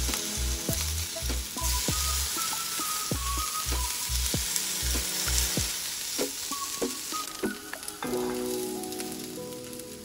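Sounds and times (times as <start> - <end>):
background music: 0.0 - 10.0
chicken sizzling on grill pan: 0.0 - 10.0.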